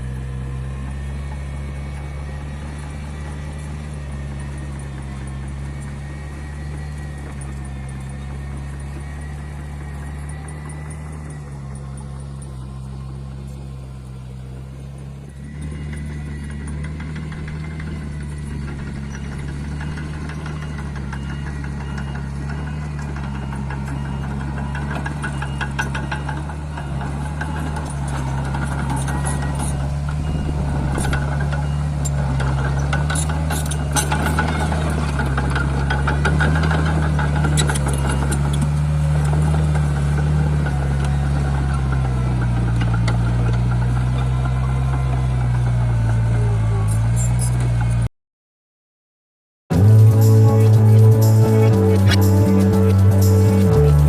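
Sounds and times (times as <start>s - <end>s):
diesel engine running: 0.0s - 48.1s, 49.7s - 54.0s.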